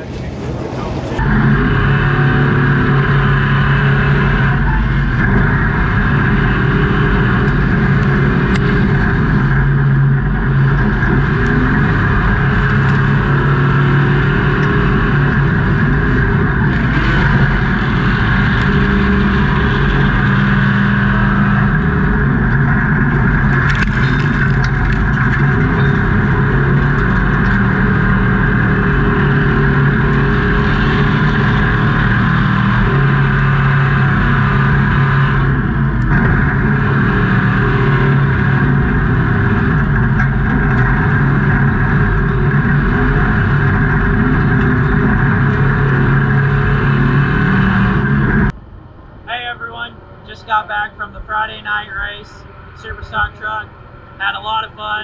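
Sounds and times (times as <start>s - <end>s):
truck engine at high revs: 0.0s - 55.0s.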